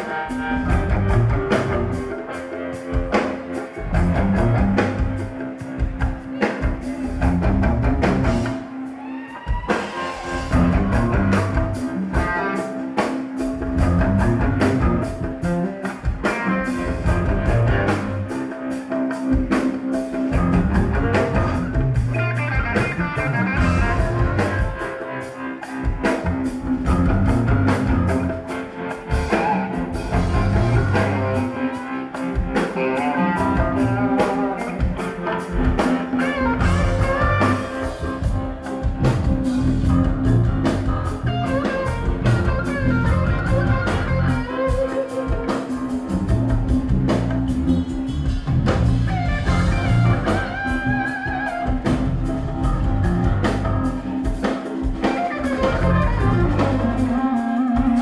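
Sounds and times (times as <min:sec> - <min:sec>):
drum kit beat: 0:00.0 - 0:58.0
electric guitar: 0:00.0 - 0:58.0.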